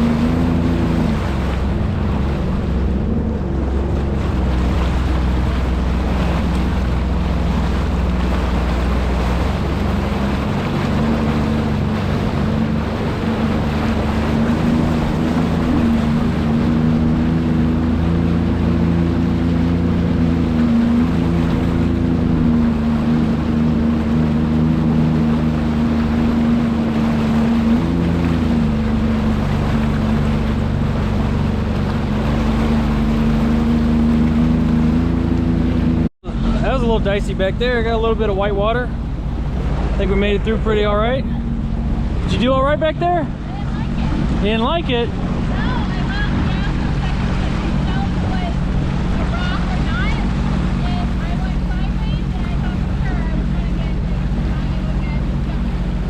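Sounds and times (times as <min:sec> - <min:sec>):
jet ski engine running: 0:00.0 - 0:56.0
rushing water: 0:00.0 - 0:56.0.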